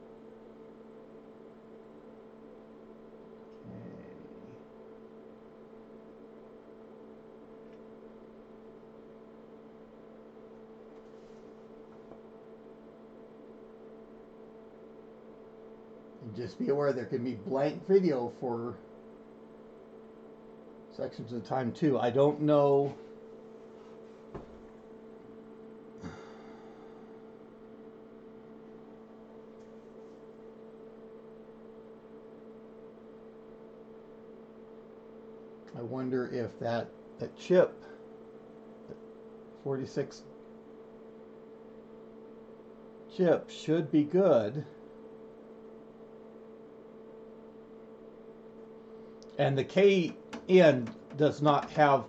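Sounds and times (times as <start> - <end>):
computer power supply hum: 0.0 - 52.0.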